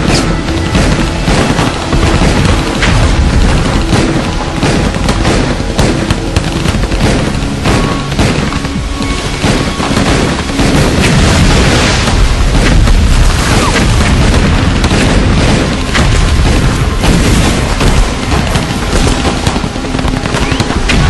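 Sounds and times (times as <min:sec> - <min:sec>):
booming blasts: 0:00.0 - 0:21.0
heavy low rumble: 0:00.0 - 0:21.0
rifle and machine-gun fire: 0:00.0 - 0:21.0.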